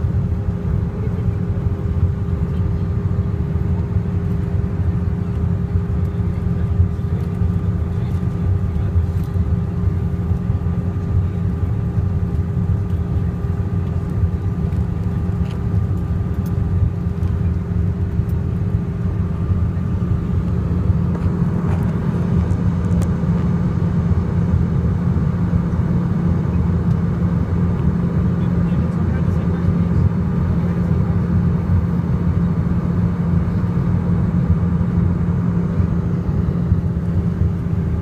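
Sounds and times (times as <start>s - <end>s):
airliner cabin engine drone: 0.0s - 38.0s.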